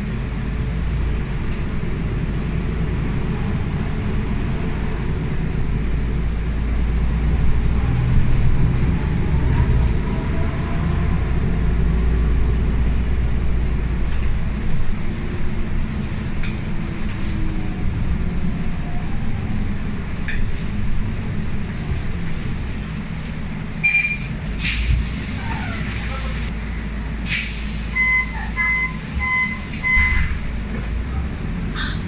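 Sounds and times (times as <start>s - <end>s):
bus diesel engine: 0.0s - 32.0s
road rumble: 0.0s - 32.0s.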